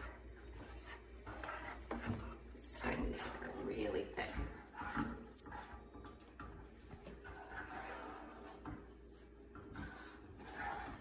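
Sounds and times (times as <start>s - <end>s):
wooden spoon scraping saucepan: 0.0s - 11.0s.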